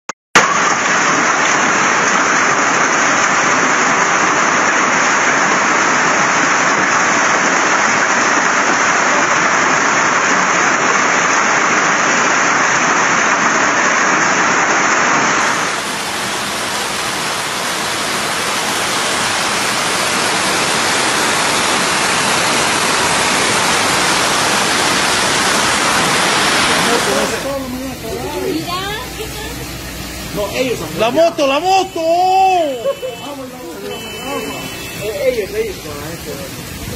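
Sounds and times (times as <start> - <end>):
heavy rain and hail: 0.4 - 36.9.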